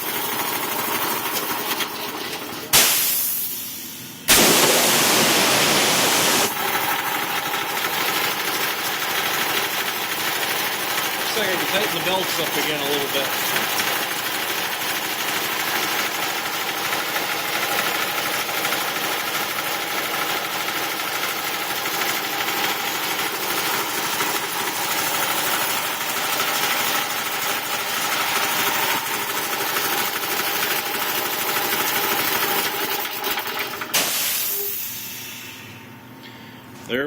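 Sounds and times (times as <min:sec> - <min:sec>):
compressor cut-out: 0:00.0 - 0:36.8
air compressor running: 0:00.0 - 0:37.0.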